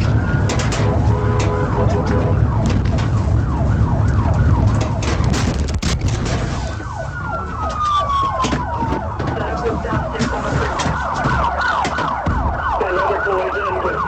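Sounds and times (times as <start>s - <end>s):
engine and road rumble: 0.0s - 14.0s
police siren yelping: 0.0s - 14.0s
siren wailing: 0.0s - 14.0s.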